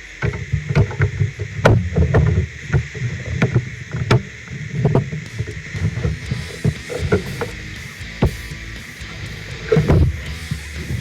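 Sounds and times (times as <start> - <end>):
rubbing and rustling: 0.2 - 11.0.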